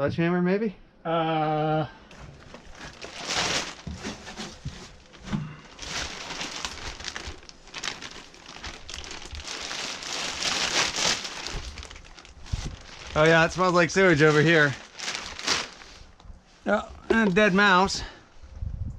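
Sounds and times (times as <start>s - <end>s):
trash rustling and scraping: 2.1s - 16.2s, 16.9s - 18.0s.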